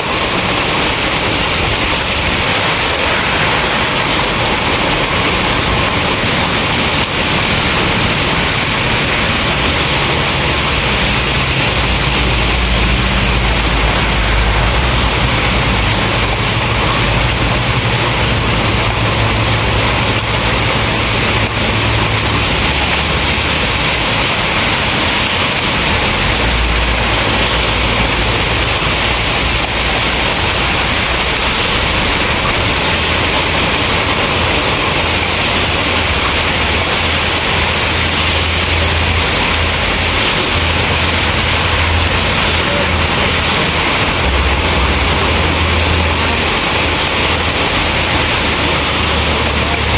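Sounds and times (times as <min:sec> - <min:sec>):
heavy rain hissing: 0:00.0 - 0:49.9
low rumble: 0:00.0 - 0:49.9.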